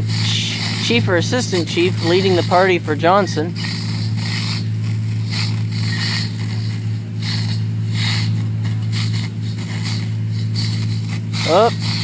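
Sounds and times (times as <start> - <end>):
fire engine pump running: 0.0 - 12.0
high-pressure water streams hissing: 0.0 - 12.0.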